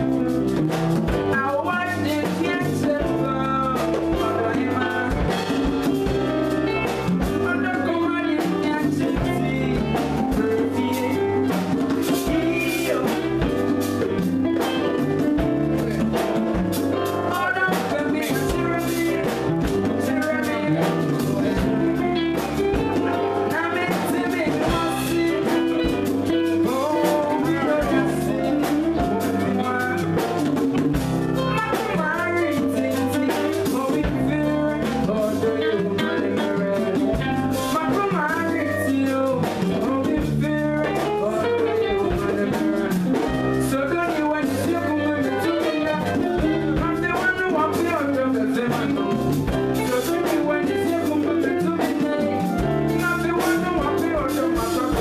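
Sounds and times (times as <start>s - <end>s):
drum kit: 0.0s - 55.0s
electric guitar: 0.0s - 55.0s
man singing into a microphone: 0.0s - 55.0s.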